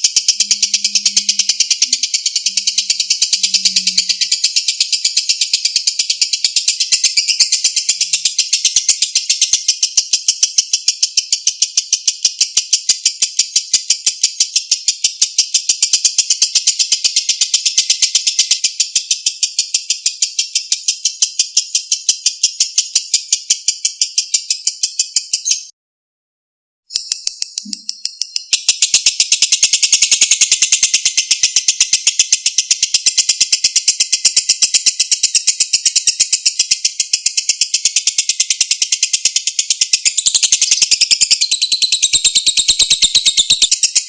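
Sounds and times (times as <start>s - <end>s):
bird chattering: 0.0s - 25.7s, 26.9s - 44.0s.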